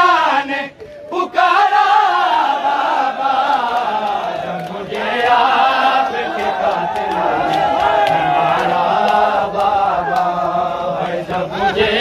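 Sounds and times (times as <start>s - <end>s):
men chanting a lament in unison: 0.0s - 12.0s.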